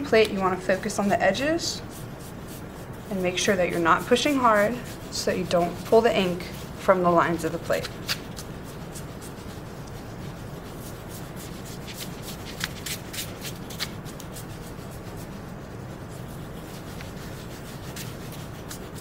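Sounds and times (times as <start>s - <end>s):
cloth scrubbing metal plate: 0.0s - 19.0s
steady low hum: 0.0s - 19.0s.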